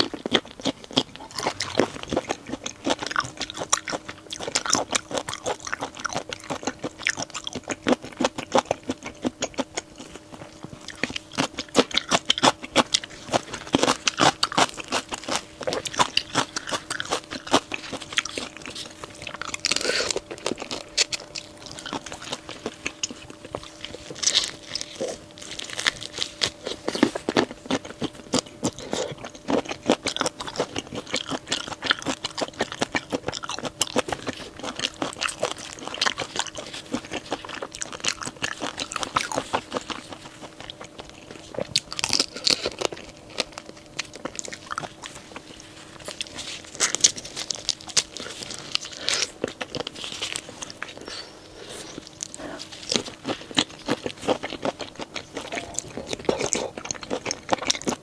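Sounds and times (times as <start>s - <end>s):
crunchy biting and chewing: 0.0s - 58.0s
faint steady hum: 0.0s - 58.0s.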